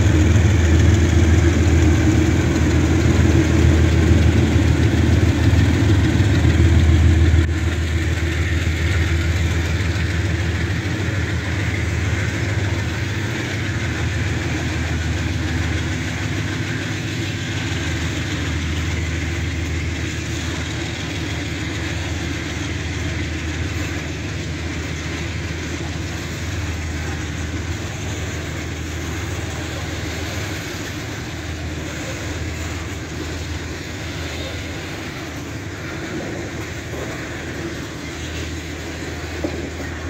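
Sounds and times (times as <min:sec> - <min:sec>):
steel wheels rumbling on rails: 0:00.0 - 0:40.0.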